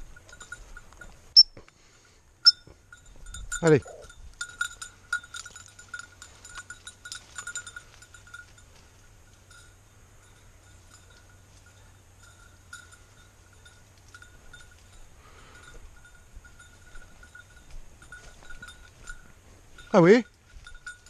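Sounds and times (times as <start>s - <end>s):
dog bell jingling: 0.0s - 1.4s, 2.5s - 21.0s.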